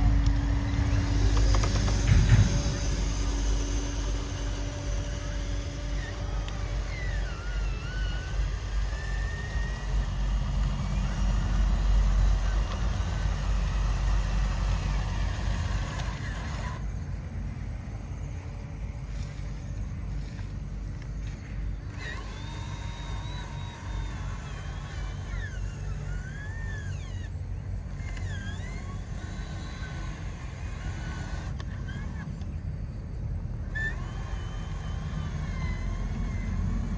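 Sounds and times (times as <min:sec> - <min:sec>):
rc truck motors whining: 0:00.0 - 0:36.9.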